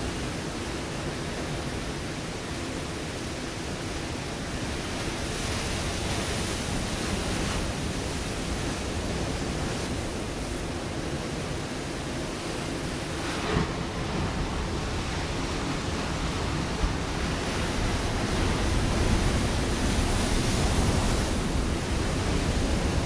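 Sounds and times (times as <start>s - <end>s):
surf on rocky shore: 0.0s - 23.0s.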